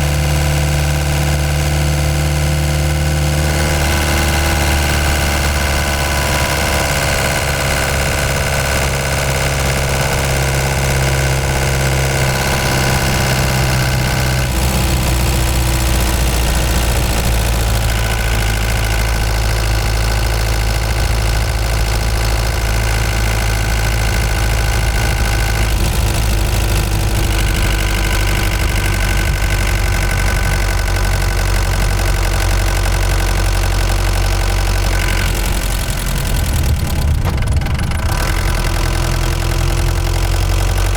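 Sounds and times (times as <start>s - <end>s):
van engine running: 0.0s - 40.9s.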